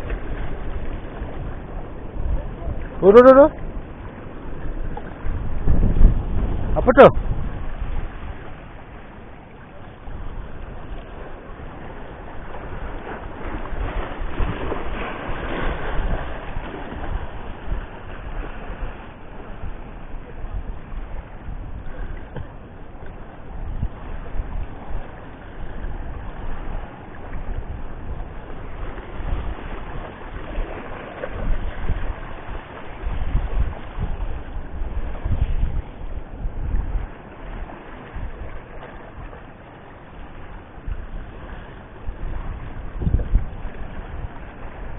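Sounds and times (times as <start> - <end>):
waves washing against rocks: 0.0 - 44.9
wind buffeting microphone: 0.0 - 44.9.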